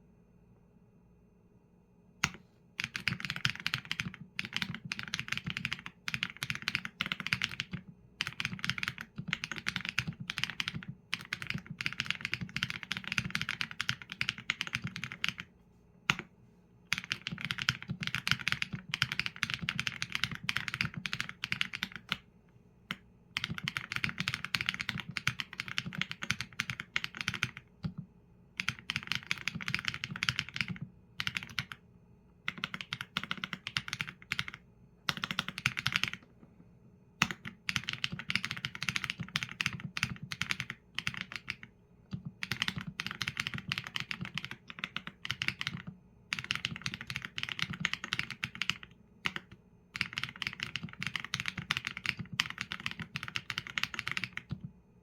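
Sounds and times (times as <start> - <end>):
typing on mechanical keyboard: 2.2 - 15.5, 16.9 - 22.2, 22.9 - 28.0, 28.6 - 31.8, 32.4 - 36.3, 37.2 - 54.7.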